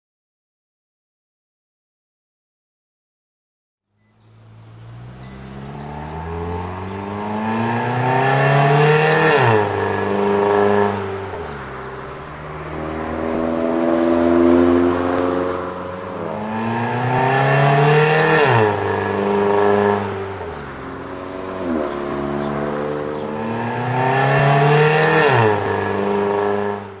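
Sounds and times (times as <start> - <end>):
car engine accelerating hard: 4.0 - 27.0.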